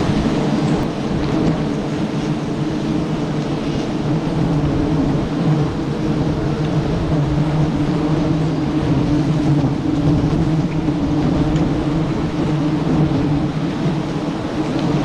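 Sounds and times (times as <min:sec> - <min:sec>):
swarm of bees buzzing: 0:00.0 - 0:15.0.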